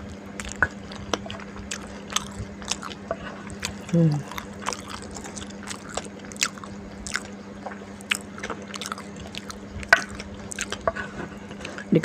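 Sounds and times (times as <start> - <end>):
person chewing noodles: 0.0 - 11.9.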